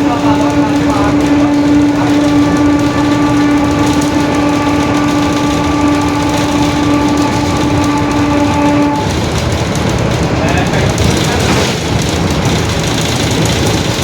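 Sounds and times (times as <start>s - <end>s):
bus differential whining: 0.0s - 14.0s
low rumble of running bus: 0.0s - 14.0s.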